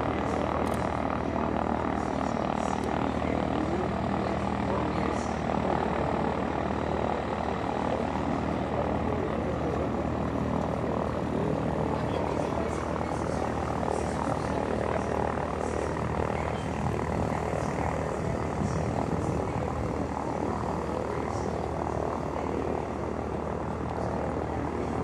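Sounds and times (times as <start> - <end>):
turboprop aircraft droning: 0.0 - 25.0.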